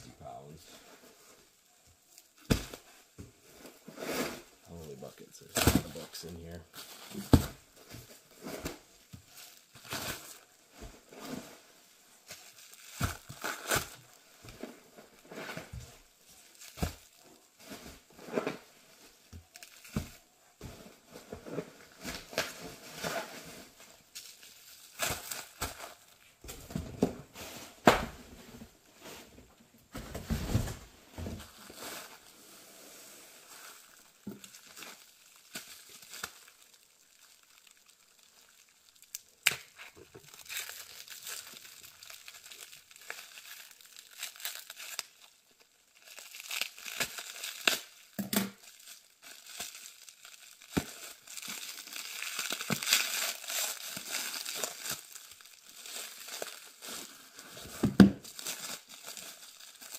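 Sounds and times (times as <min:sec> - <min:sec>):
plastic wrap crinkling and tearing: 0:00.1 - 0:27.1, 0:30.2 - 0:59.9.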